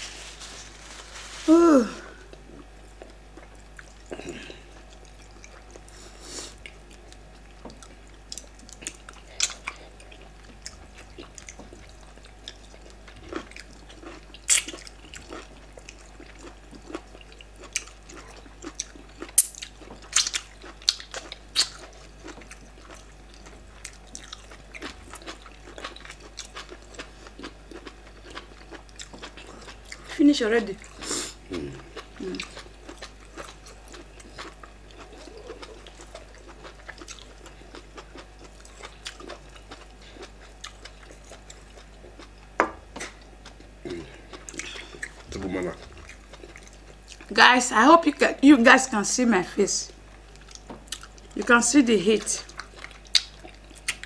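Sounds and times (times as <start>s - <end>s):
chewing and lip-smacking: 2.3s - 47.3s, 50.1s - 51.5s, 52.2s - 54.0s.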